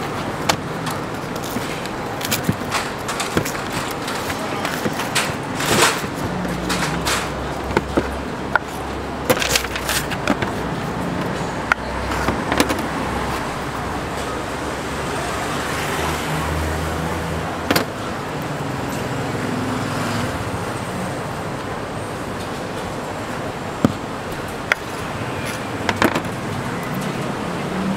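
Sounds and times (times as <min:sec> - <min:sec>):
street traffic hum: 0:00.0 - 0:27.9.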